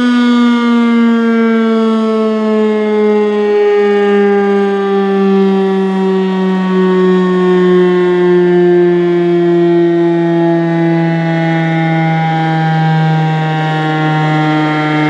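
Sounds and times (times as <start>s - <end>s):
warning siren winding down: 0.0s - 15.0s.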